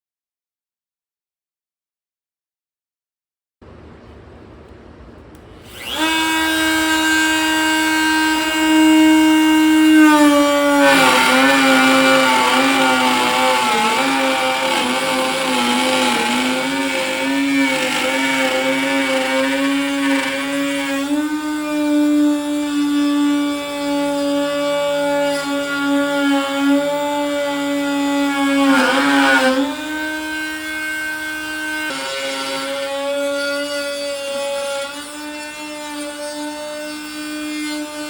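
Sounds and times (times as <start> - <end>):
electric router whining: 5.6 - 38.0.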